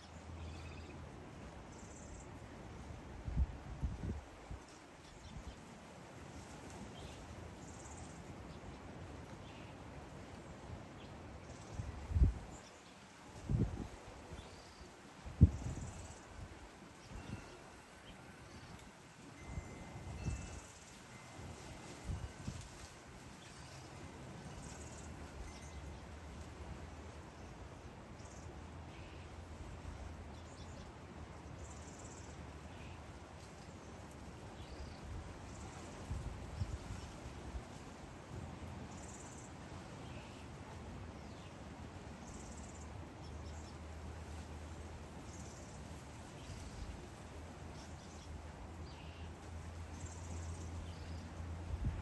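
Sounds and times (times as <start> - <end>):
background hiss: 0.0 - 52.0.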